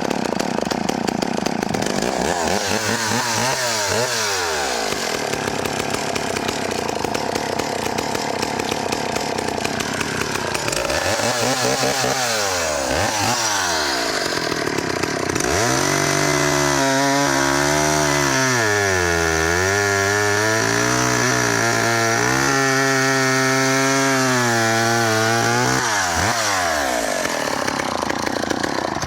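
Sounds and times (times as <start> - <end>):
chainsaw cutting log: 0.0 - 29.0.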